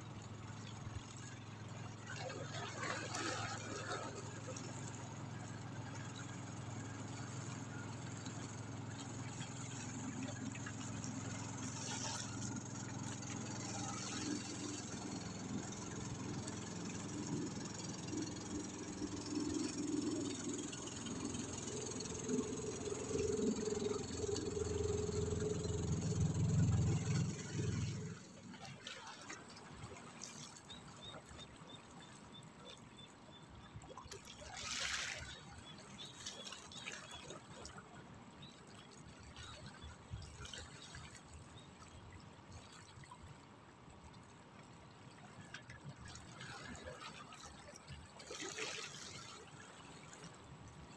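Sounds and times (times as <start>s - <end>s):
motorboat engine humming: 0.0s - 50.9s.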